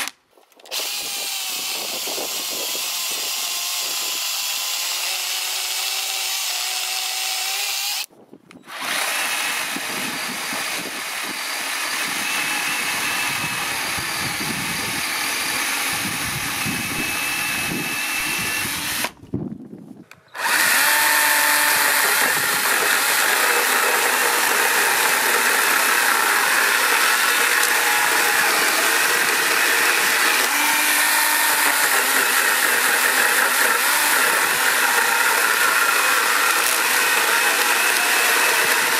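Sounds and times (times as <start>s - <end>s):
chainsaw cutting wood: 0.0s - 19.2s, 20.3s - 38.9s.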